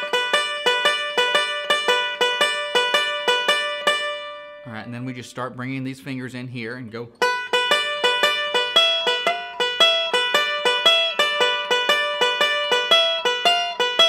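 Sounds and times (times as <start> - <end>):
banjo played fingerstyle: 0.0 - 5.2, 7.1 - 14.0.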